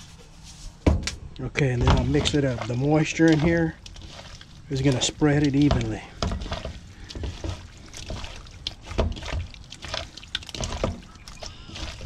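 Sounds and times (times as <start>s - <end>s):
hands squishing wet fish: 1.8s - 12.0s.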